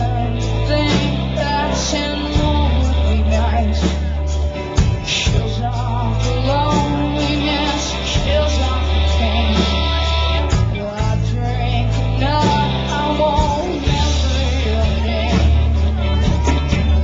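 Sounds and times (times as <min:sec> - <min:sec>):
deep bass notes: 0:00.0 - 0:17.0
drums: 0:00.0 - 0:17.0
electric guitar: 0:00.0 - 0:17.0
woman singing: 0:00.0 - 0:17.0.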